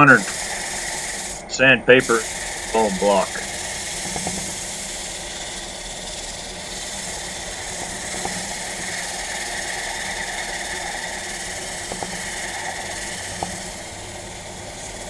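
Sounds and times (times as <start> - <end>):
wood lathe motor hum: 0.0 - 1.5, 2.1 - 15.0
sandpaper hissing on spinning wood: 0.0 - 15.0.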